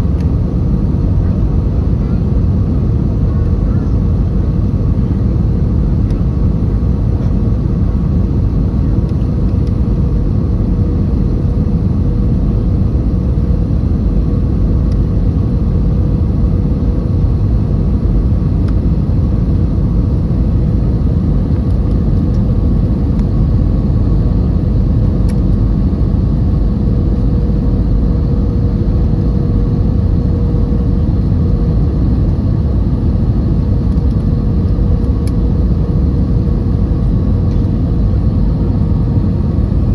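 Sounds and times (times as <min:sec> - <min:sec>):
airliner cabin engine rumble: 0:00.0 - 0:39.9
faint steady hum: 0:00.0 - 0:39.9.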